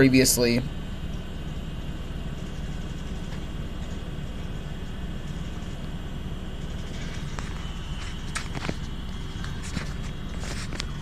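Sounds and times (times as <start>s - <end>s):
computer hardware humming: 0.0s - 11.0s.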